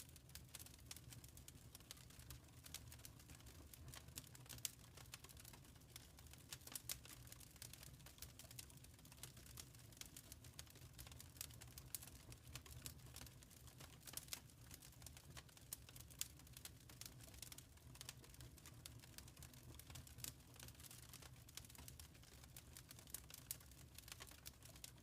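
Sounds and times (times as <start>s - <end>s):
faint fireplace fire crackling: 0.0s - 25.0s.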